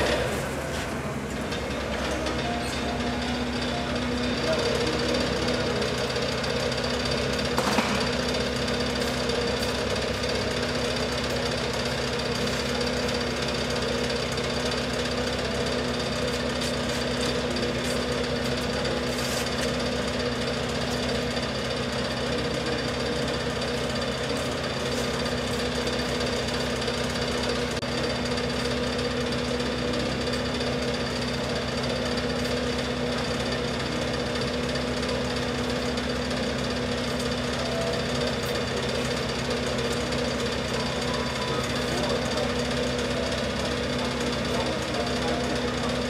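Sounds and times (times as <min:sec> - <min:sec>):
machine hum with rattle: 0:00.0 - 0:46.0.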